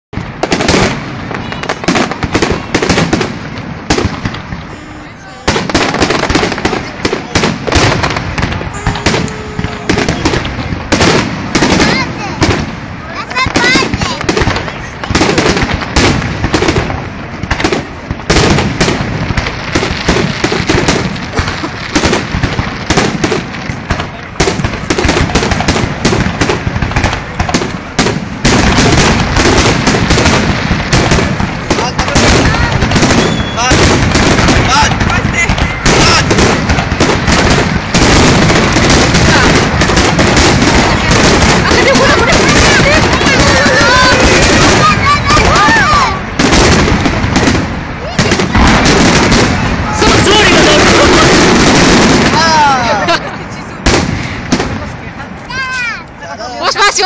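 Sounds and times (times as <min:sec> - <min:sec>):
fireworks bangs and crackles: 0:00.1 - 0:57.0.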